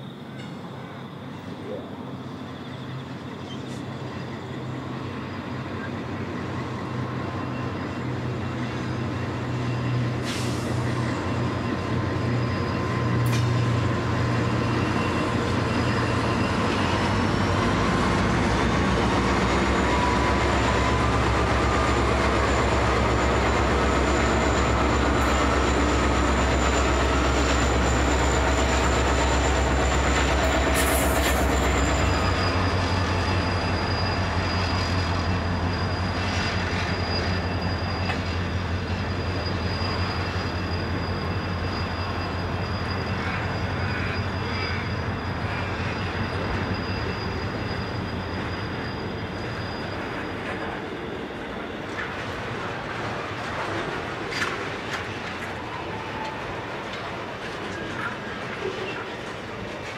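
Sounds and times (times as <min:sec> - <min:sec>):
diesel locomotive drone: 0:00.0 - 0:59.9
high wheel squeals: 0:00.2 - 0:59.9.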